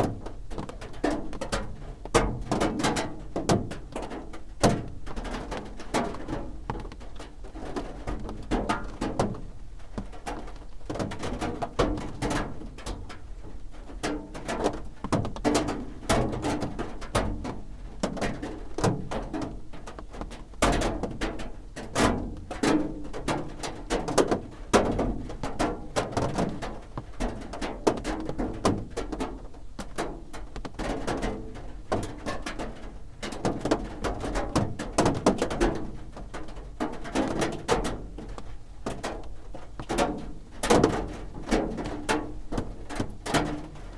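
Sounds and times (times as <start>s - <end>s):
rain drumming on a roof: 0.0s - 43.9s.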